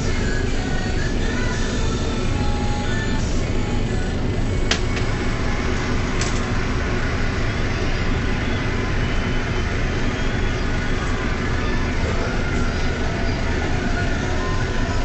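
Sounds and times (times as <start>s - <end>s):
diesel bus engine idling: 0.0s - 15.0s.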